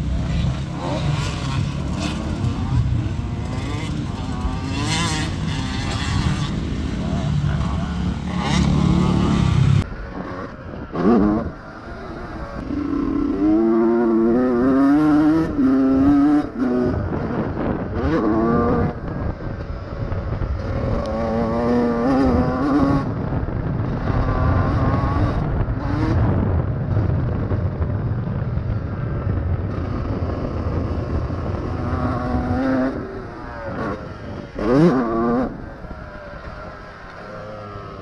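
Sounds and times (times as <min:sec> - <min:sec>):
motocross engine revving: 0:00.0 - 0:27.6, 0:28.5 - 0:38.0.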